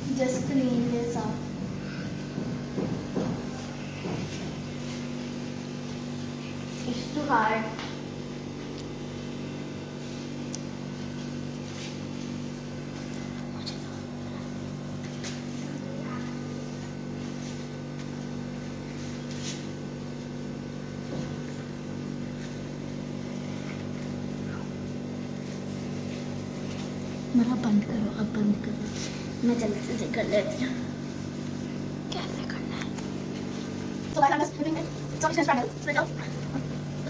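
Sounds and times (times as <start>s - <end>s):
low electrical hum: 0.0s - 37.0s
paper towel rubbing surface: 0.2s - 7.6s, 9.9s - 13.1s, 14.4s - 37.0s.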